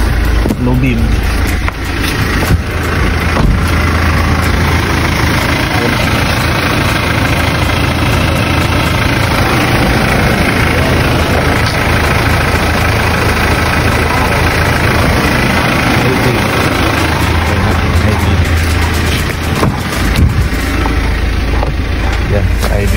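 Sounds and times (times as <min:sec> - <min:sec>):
van engine idling: 0:00.0 - 0:22.9.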